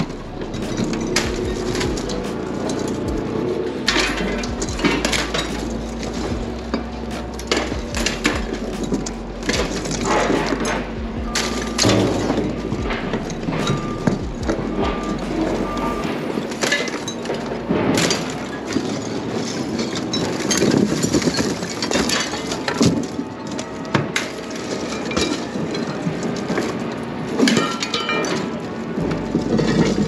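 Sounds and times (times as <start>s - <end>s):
scrap metal clanking: 0.0s - 30.0s.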